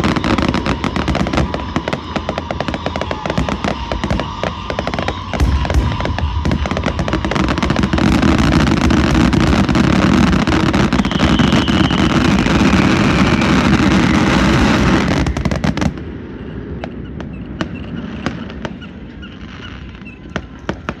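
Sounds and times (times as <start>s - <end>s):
scattered firework pops: 0.0s - 16.0s, 19.8s - 21.0s
fireworks crackling and banging: 0.0s - 21.0s.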